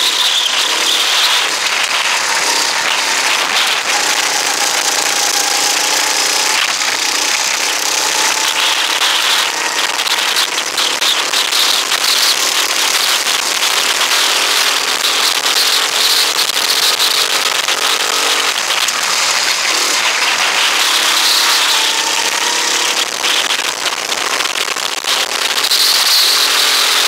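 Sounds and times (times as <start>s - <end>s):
go-kart engine running hard: 0.0s - 27.0s.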